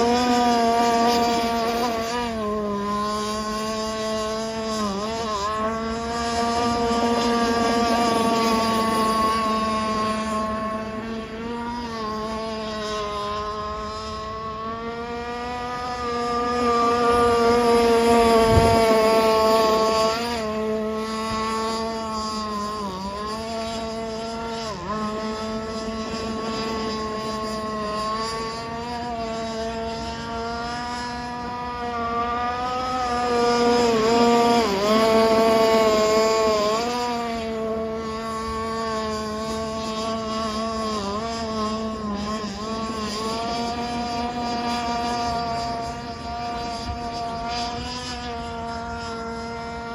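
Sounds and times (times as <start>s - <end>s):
rc boat engine buzzing: 0.0s - 49.9s.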